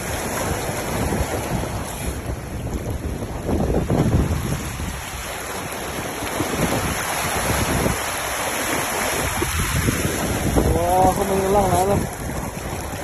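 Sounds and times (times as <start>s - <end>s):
rough sea breaking against hull: 0.0s - 13.0s
wind buffeting microphone: 0.0s - 13.0s.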